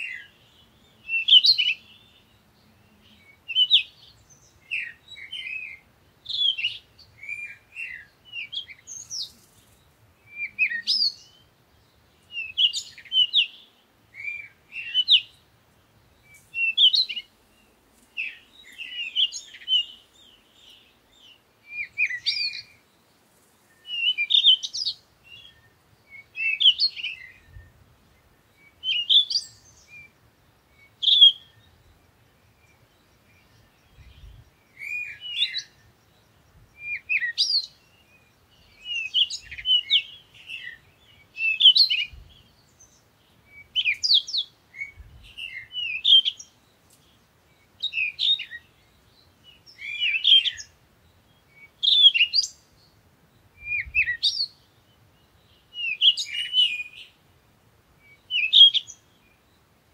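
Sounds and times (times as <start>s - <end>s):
small bird chirping: 0.0s - 57.2s, 58.0s - 59.8s.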